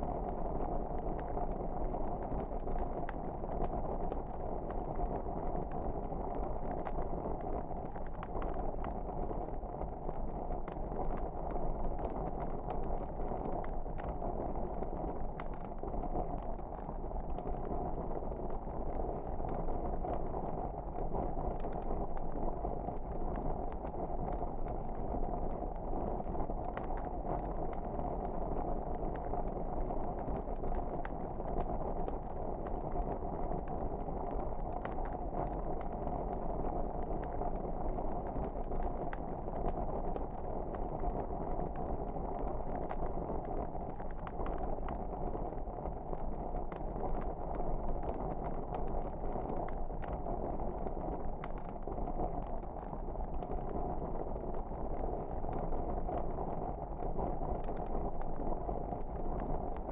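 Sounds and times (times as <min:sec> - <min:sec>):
fire crackles and pops: 0:00.0 - 0:59.9
wood fire burning: 0:00.0 - 0:59.9.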